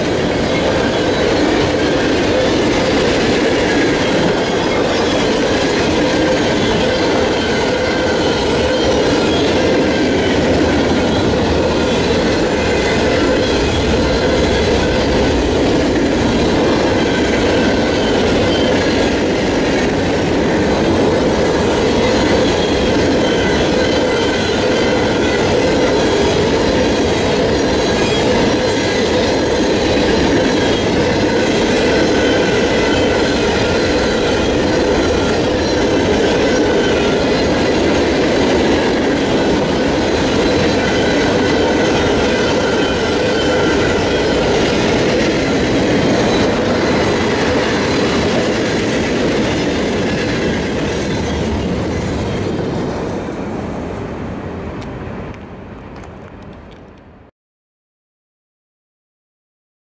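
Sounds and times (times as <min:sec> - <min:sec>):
high wheel squeal: 0:00.0 - 0:52.8
steel wheels rumbling on rail: 0:00.0 - 0:57.0.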